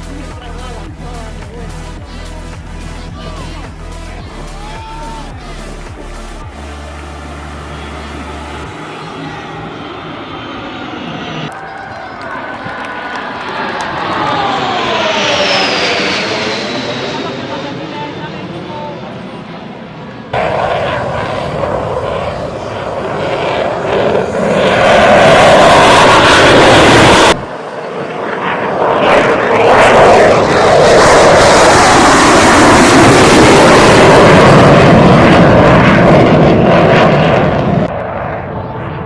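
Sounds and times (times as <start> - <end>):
aircraft engine passing close: 0.0 - 39.0.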